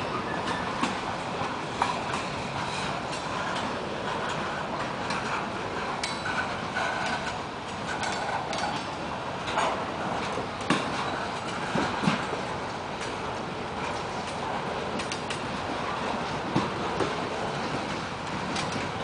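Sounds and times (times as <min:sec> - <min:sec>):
freight train wheels rumbling: 0:00.0 - 0:19.0
wheels clacking over rail joints: 0:00.0 - 0:19.0.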